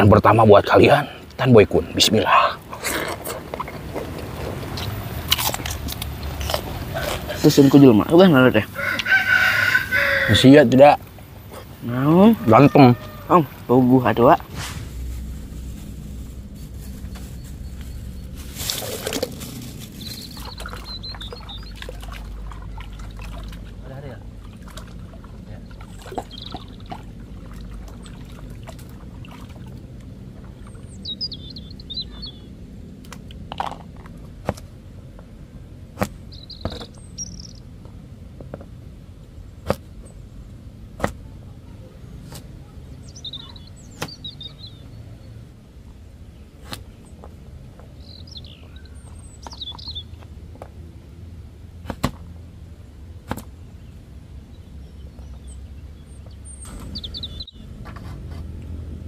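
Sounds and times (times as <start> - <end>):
birds chirping: 0.0 - 33.8, 35.1 - 51.1, 52.0 - 58.1.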